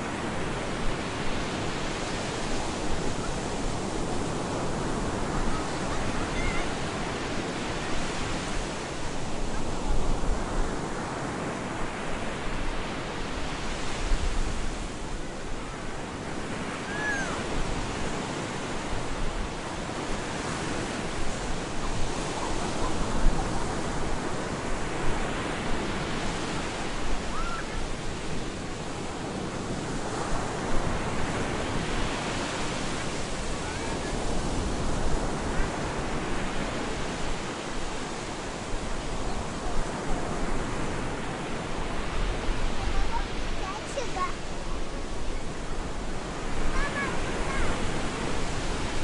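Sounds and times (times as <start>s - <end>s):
surf breaking on a beach: 0.0s - 49.0s.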